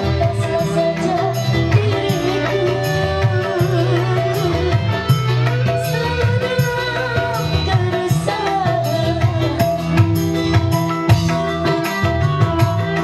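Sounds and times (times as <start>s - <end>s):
hand drums beat: 0.0s - 13.0s
keyboard: 0.0s - 13.0s
woman singing into microphone: 0.0s - 13.0s.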